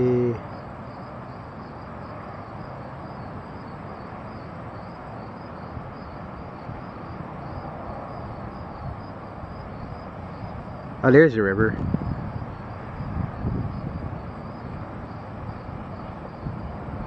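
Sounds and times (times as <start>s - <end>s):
insects chirping: 0.0s - 17.0s
outdoor background hiss: 0.0s - 17.0s.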